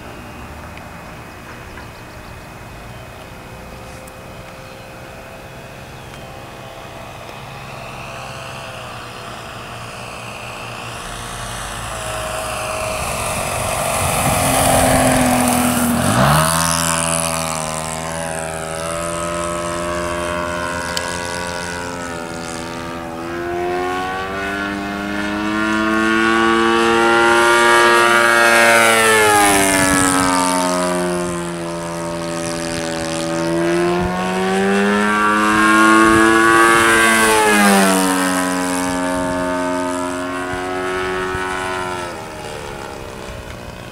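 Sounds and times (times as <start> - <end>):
model plane engine running: 0.0 - 43.9.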